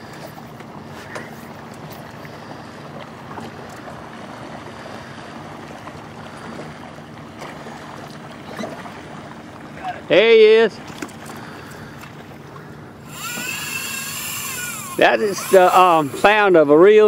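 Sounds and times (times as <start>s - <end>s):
low steady hum: 0.0s - 17.0s
water against hull: 0.0s - 17.0s
wind: 0.0s - 17.0s.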